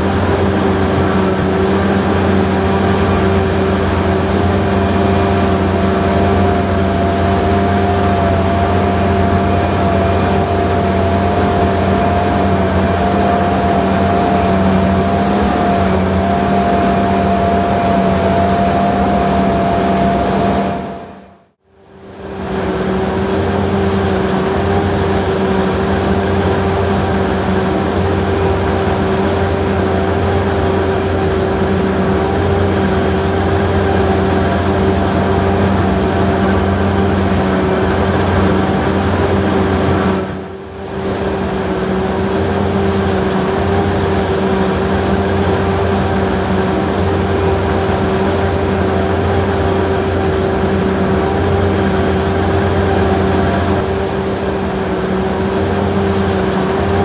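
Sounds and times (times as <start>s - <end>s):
harvester engine drone with whine: 0.0s - 57.0s.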